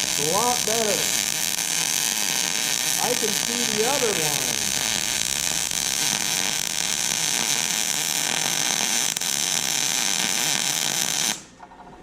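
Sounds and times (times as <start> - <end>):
welding arc hissing and crackling: 0.0 - 11.5.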